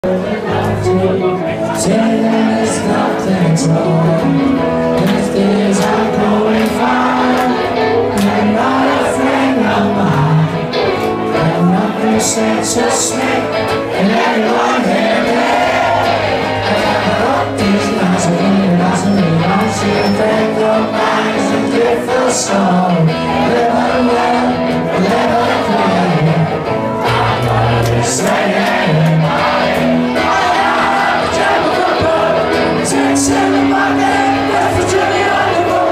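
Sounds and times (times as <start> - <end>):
person singing: 0.0 - 35.9
rock band playing: 0.0 - 35.9.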